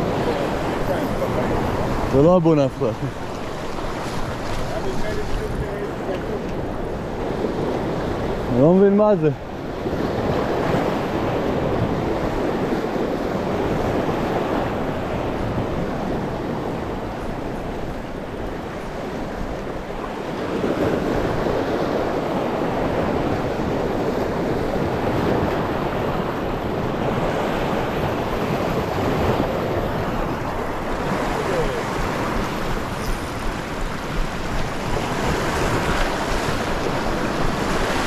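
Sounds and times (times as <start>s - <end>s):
surf washing over rocks: 0.0s - 38.0s.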